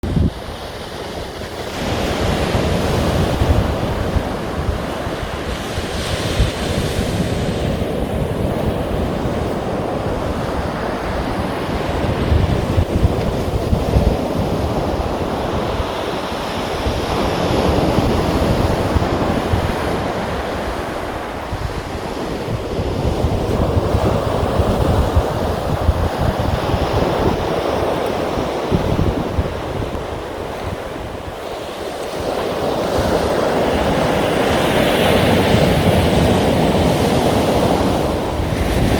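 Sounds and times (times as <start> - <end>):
sea waves washing ashore: 0.0 - 38.9
wind buffeting microphone: 0.0 - 38.9.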